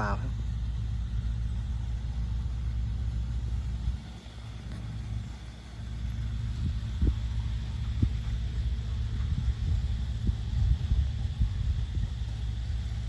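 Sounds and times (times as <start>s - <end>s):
heavy engine rumbling: 0.0s - 13.0s.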